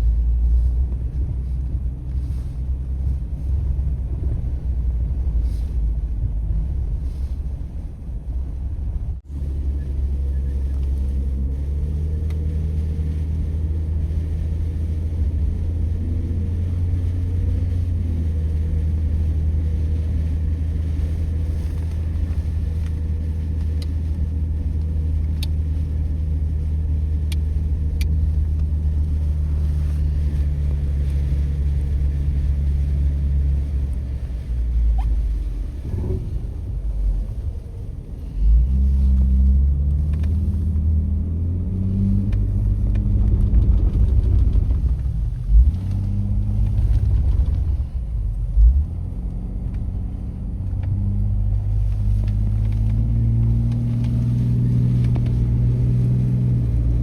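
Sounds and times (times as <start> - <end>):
car engine hum and road rumble: 0.0 - 57.0.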